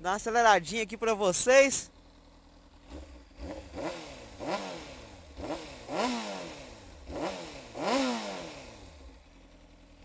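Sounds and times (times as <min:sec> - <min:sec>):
motorcycle engine revving: 0:01.7 - 0:10.0.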